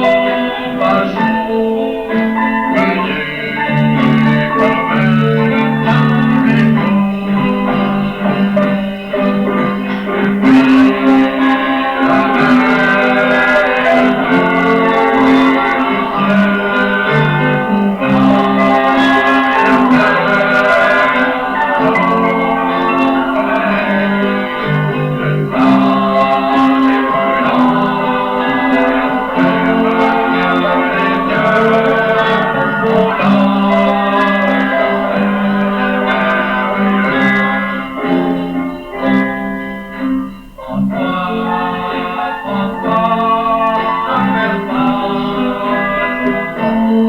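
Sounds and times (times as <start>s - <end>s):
guitar accompaniment: 0.0s - 47.0s
voices singing held notes: 0.0s - 47.0s.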